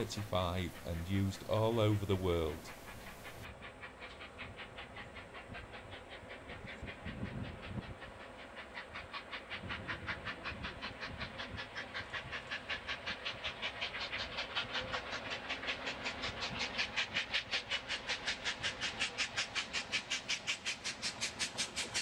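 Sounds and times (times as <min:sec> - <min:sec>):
steam hiss: 0:00.0 - 0:22.0
steam locomotive exhaust beating: 0:00.0 - 0:22.0.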